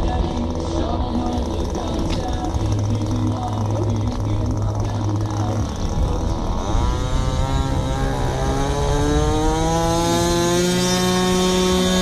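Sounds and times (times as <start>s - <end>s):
model airplane engine revving: 0.0s - 12.0s.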